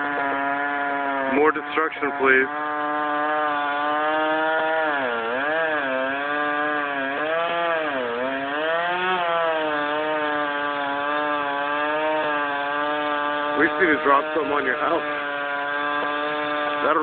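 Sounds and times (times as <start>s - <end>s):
gas chainsaw cutting wood: 0.0s - 17.0s.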